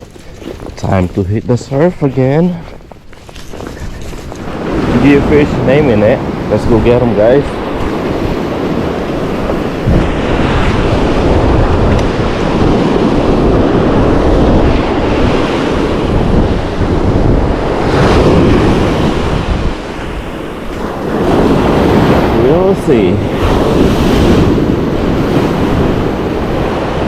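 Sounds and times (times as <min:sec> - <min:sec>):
wind buffeting microphone: 0:00.0 - 0:27.0
ocean surf breaking: 0:01.6 - 0:27.0.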